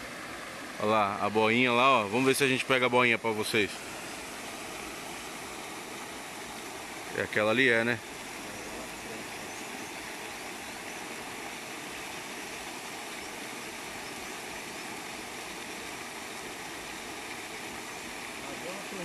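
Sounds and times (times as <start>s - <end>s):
pond aerator splashing water: 0.0s - 19.0s.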